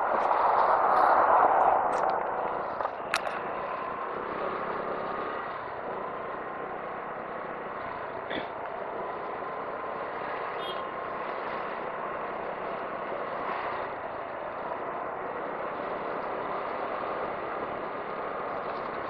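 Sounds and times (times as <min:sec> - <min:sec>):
truck passing: 0:00.0 - 0:19.0
wind and road noise: 0:00.0 - 0:19.0.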